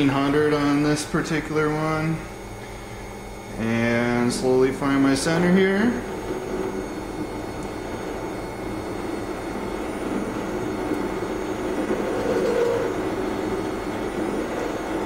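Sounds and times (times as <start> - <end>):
lathe running hum and hiss: 0.0 - 15.0.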